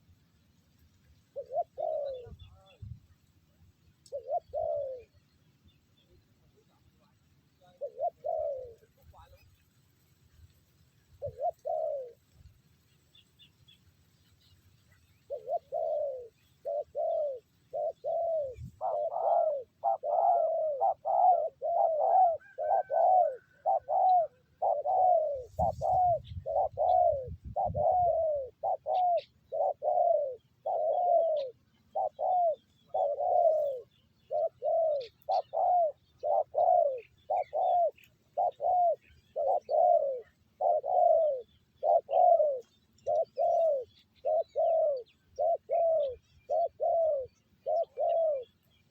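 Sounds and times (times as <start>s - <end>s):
dove cooing: 1.3s - 3.0s, 4.0s - 5.3s, 6.4s - 9.4s, 11.2s - 12.4s, 15.2s - 48.9s.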